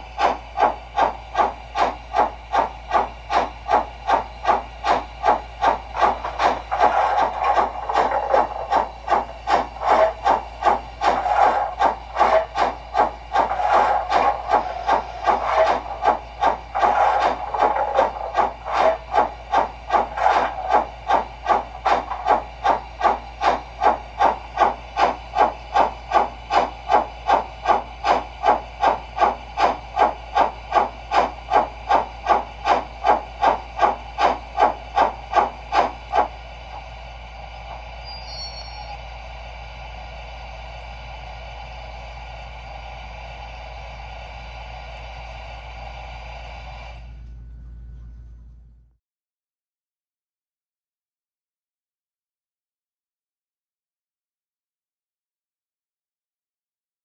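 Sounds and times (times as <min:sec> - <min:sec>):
model steam locomotive chuffing: 0:00.0 - 0:47.1.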